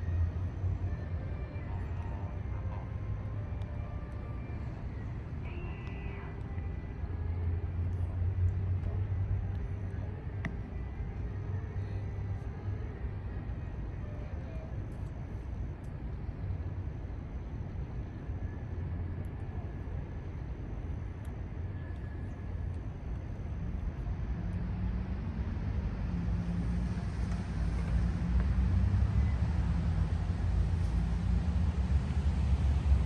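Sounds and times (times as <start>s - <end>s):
engine hum: 0.0s - 33.0s
rumble of vehicle traffic: 0.0s - 33.0s.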